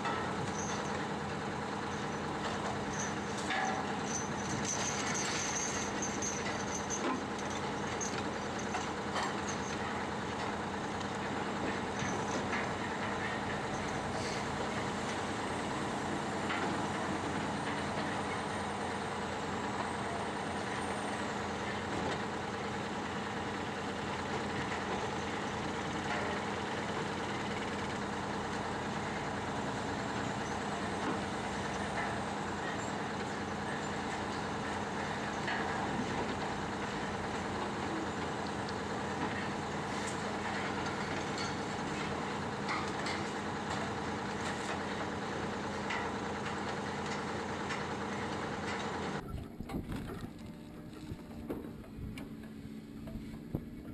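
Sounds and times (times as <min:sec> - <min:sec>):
heavy machinery engine humming: 0:00.0 - 0:53.9.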